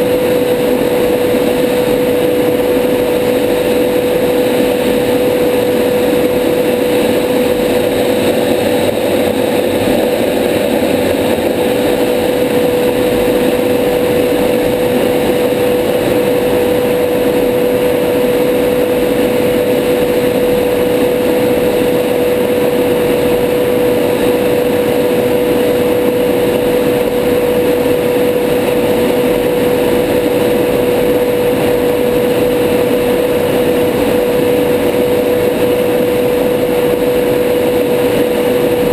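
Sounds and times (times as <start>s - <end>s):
jet cockpit rushing roar: 0.0s - 38.9s
steady tone: 0.0s - 38.9s.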